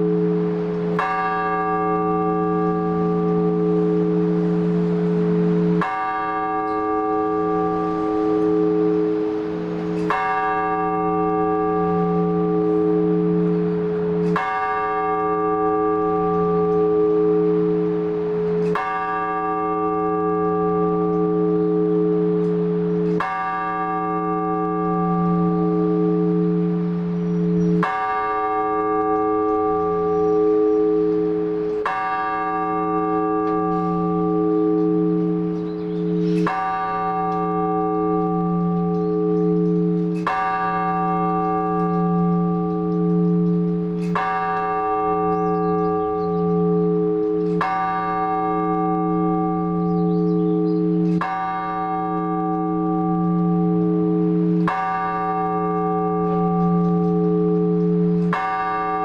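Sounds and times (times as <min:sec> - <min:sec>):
large church bell strokes: 0:00.0 - 0:59.0.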